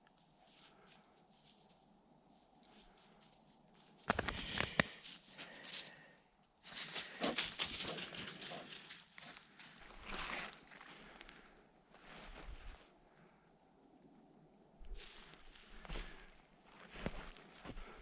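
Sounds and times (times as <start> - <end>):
footsteps through wet undergrowth: 0.0 - 12.7, 15.0 - 18.0.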